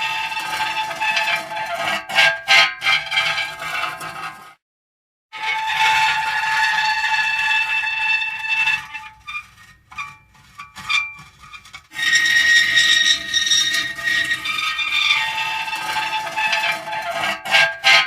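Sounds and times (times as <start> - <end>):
metal squealing: 0.0 - 4.4, 5.4 - 18.0.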